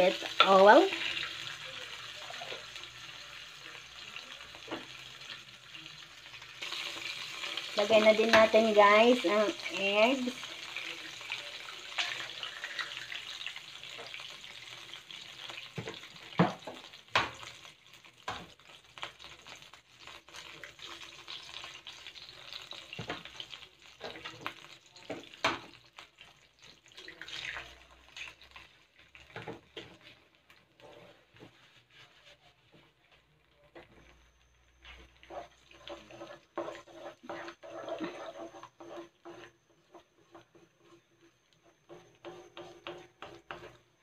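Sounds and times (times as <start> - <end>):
butter and oil sizzling: 0.0 - 44.0.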